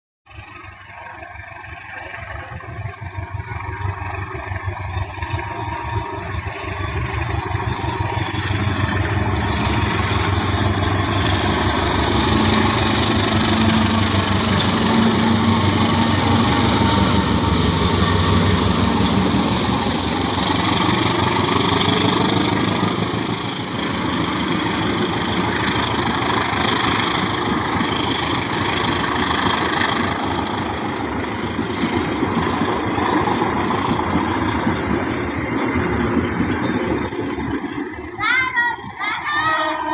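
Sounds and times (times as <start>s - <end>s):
train engine drone: 0.3s - 39.9s
train wheels clattering on rails: 0.3s - 39.9s.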